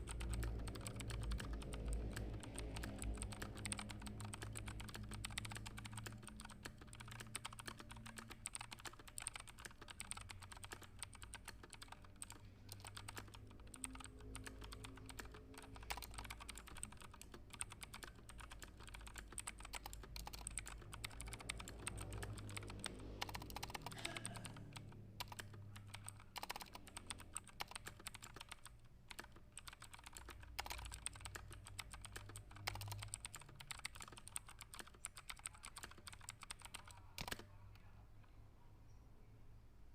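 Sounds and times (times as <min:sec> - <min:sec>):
fast keyboard typing: 0:00.0 - 0:37.6
low steady hum: 0:00.0 - 0:39.9.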